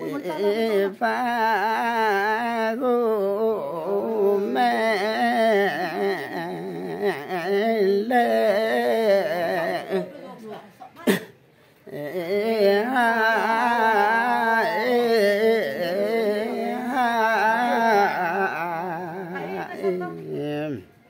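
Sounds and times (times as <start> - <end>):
person singing unaccompanied: 0.0 - 21.0.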